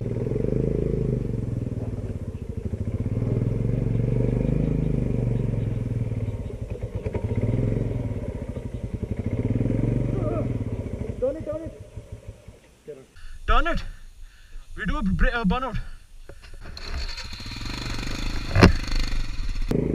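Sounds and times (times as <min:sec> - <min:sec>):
motorcycle engine revving: 0:00.0 - 0:12.7, 0:16.6 - 0:19.9.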